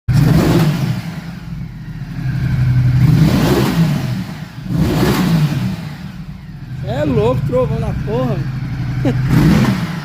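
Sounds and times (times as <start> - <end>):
motorcycle engine revving: 0.1 - 10.0.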